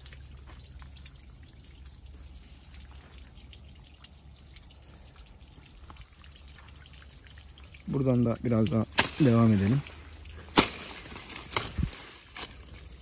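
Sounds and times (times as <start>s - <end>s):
low steady hum: 0.0s - 13.0s
water dripping: 0.0s - 13.0s.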